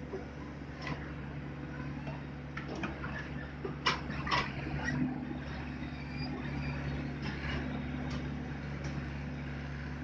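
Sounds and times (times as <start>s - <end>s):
heavy diesel engines running: 0.0s - 10.0s.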